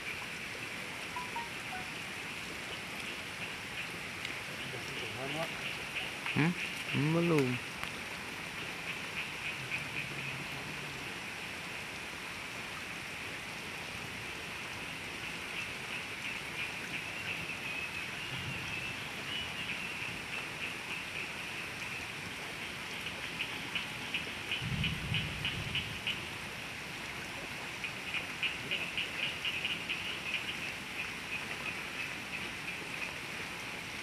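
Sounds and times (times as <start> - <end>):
rain and running water: 0.0 - 34.0.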